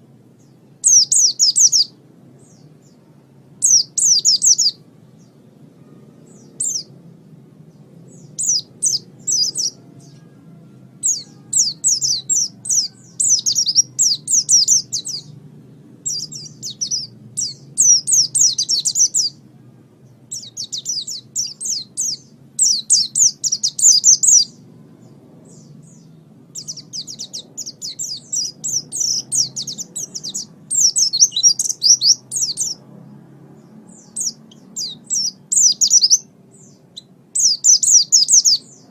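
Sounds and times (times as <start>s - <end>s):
bird twittering song: 0.0s - 7.0s, 7.7s - 19.4s, 20.0s - 32.8s, 33.6s - 38.9s
faint low hum: 0.0s - 38.9s.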